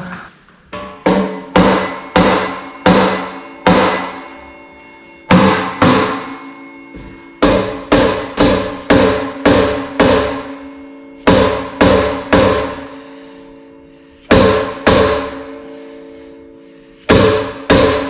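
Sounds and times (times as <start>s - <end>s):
metallic ringing: 0.4s - 18.0s
hammer striking metal pulley: 0.7s - 18.0s.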